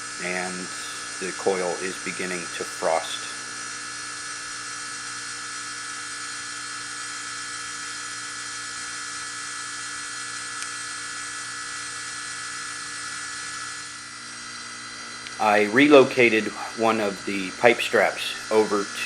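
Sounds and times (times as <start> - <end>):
compressor humming and hissing: 0.0 - 19.0.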